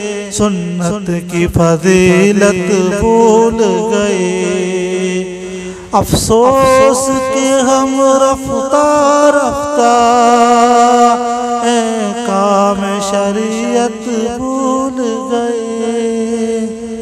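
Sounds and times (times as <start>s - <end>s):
man singing religious song: 0.0s - 17.0s.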